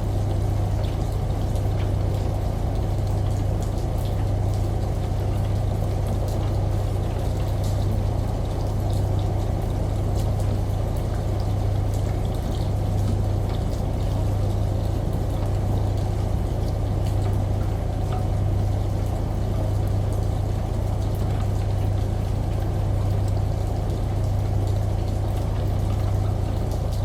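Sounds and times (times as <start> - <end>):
washing machine humming: 0.0 - 27.0
faint dripping ticks: 0.2 - 27.0.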